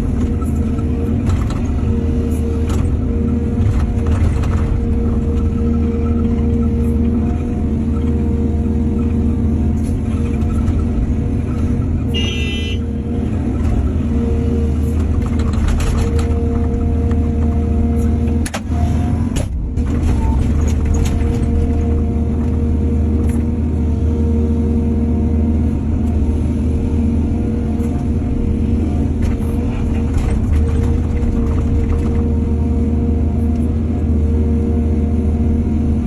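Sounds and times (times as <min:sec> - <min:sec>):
heavy diesel machinery droning: 0:00.0 - 0:36.0.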